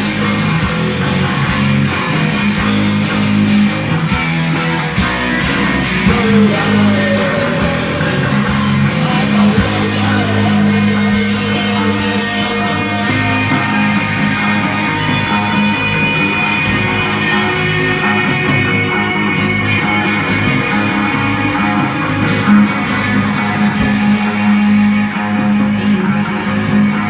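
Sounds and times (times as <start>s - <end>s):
sustained low notes: 0.0s - 26.7s
live rock band playing: 0.0s - 27.0s.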